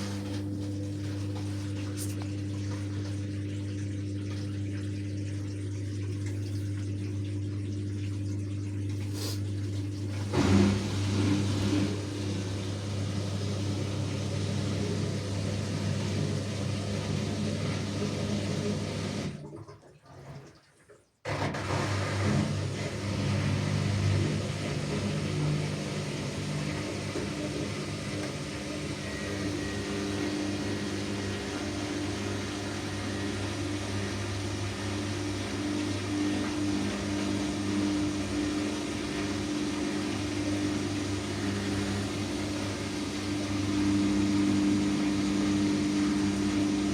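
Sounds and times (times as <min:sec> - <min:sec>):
washing machine running: 0:00.0 - 0:46.9.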